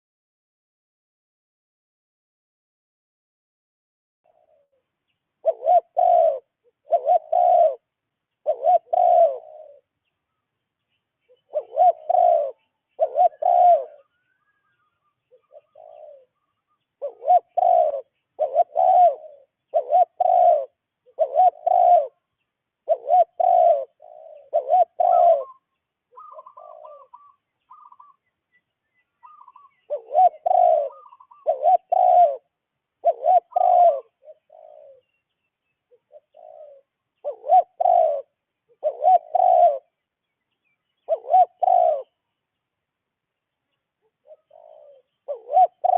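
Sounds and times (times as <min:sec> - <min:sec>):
bird calling low notes: 0:04.3 - 0:42.7, 0:43.7 - 0:45.9.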